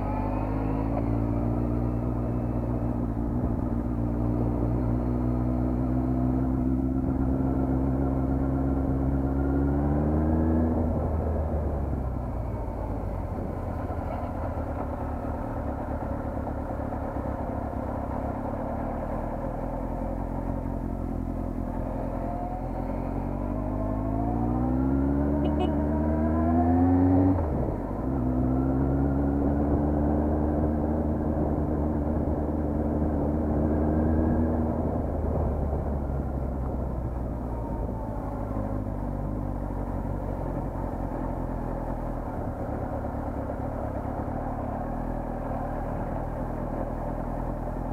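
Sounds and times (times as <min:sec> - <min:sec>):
road and wind rumble: 0:00.0 - 0:47.9
vehicle engine accelerating: 0:00.0 - 0:47.9.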